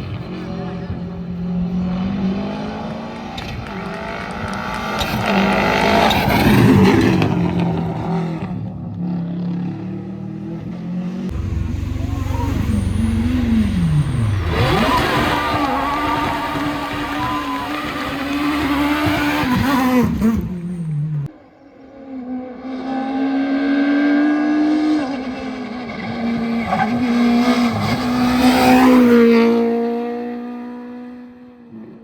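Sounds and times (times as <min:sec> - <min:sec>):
rally car engines passing at speed: 0:00.0 - 0:32.0.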